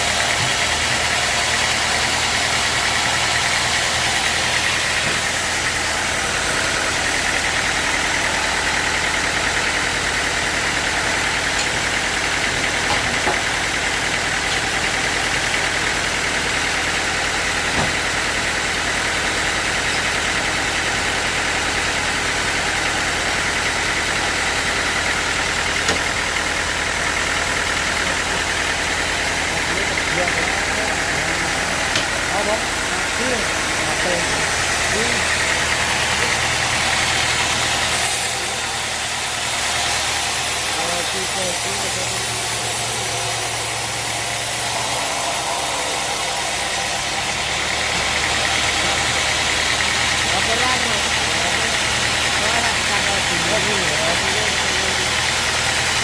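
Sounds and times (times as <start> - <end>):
sawmill machinery hum: 0.0 - 56.0.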